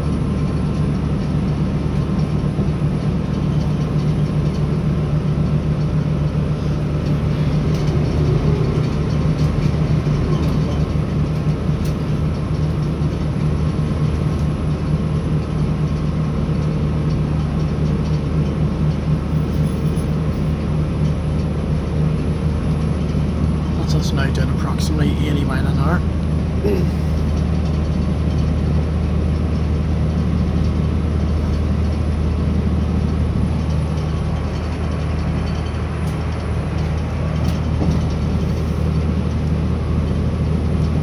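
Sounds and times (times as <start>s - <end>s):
train engine drone: 0.0s - 41.0s
wheels rumbling on rail: 0.0s - 41.0s.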